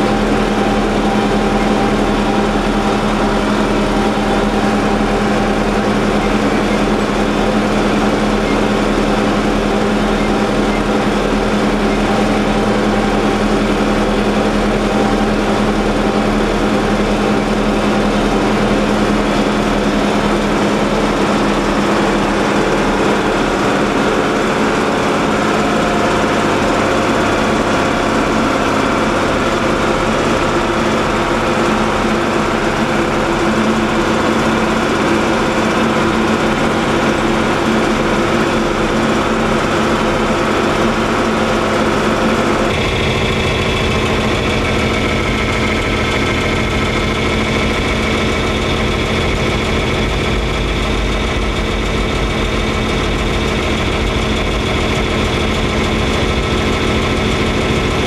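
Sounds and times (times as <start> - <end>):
tractor engine running under load: 0.0 - 58.0.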